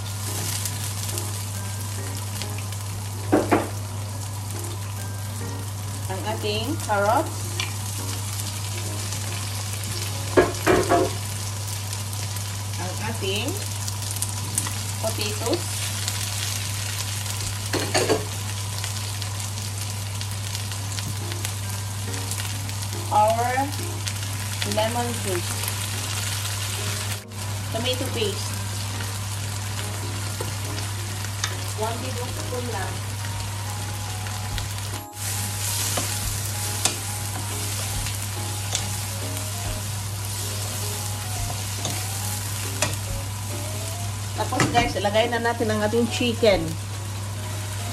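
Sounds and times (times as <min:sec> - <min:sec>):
vegetables sizzling in oil: 0:00.0 - 0:47.9.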